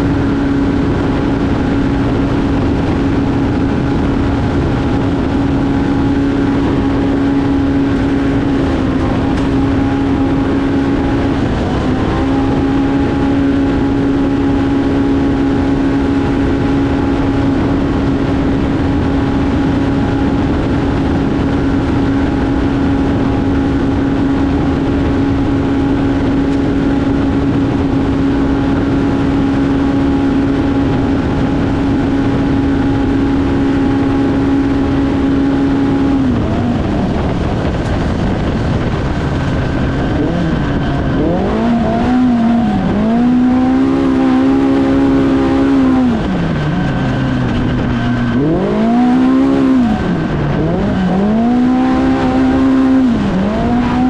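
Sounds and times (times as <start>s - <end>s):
engine running at high revs: 0.0s - 54.0s
wind noise: 0.0s - 54.0s.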